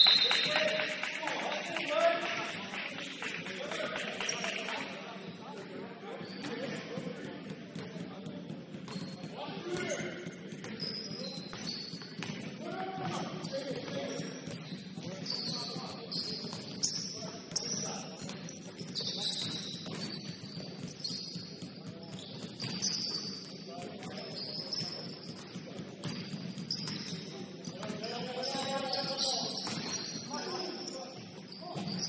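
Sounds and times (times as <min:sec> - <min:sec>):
shoes squeaking on court: 0:06.0 - 0:32.0.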